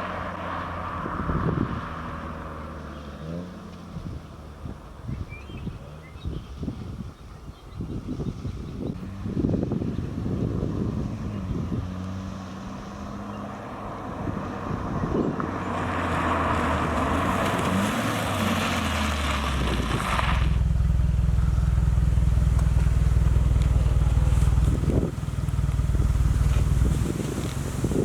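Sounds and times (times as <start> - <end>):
car exhaust drone: 0.0 - 28.0
wind and road noise: 0.0 - 28.0.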